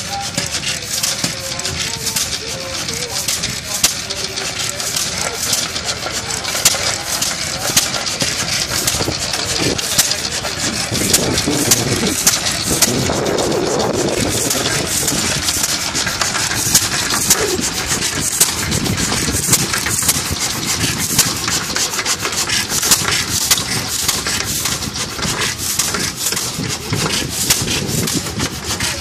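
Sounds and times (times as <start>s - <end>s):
single-cylinder engine clattering: 0.0s - 29.0s.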